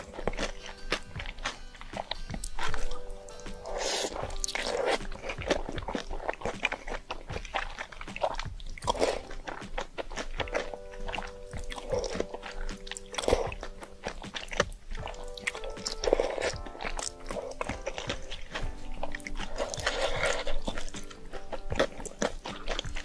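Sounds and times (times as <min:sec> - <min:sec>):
person chewing noodles: 0:00.0 - 0:23.0.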